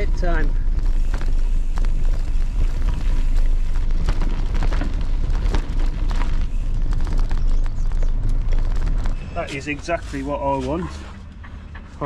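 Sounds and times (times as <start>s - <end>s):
bicycle clicks and rattles: 0.0s - 12.0s.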